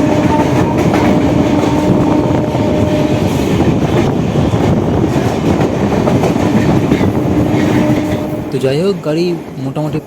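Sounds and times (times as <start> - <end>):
clickety-clack over rail joints: 0.0 - 10.0
train wheel and rail noise: 0.0 - 10.0.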